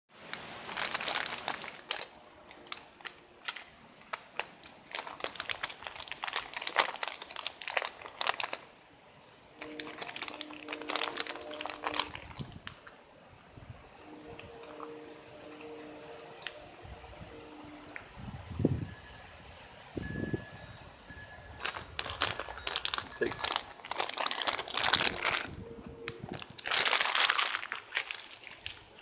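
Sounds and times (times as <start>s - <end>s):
faint insect chirping: 0.8s - 26.5s.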